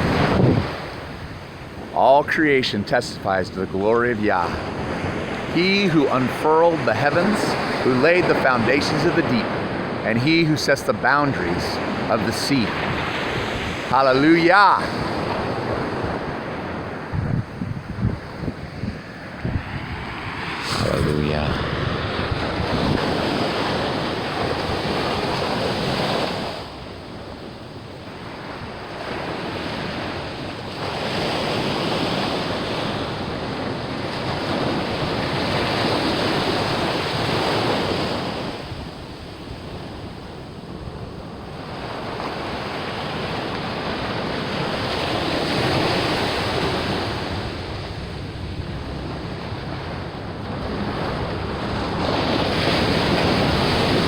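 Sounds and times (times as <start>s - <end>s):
wind buffeting microphone: 0.0s - 2.0s, 11.6s - 27.4s, 28.4s - 54.0s
surf breaking on shore: 0.0s - 54.0s.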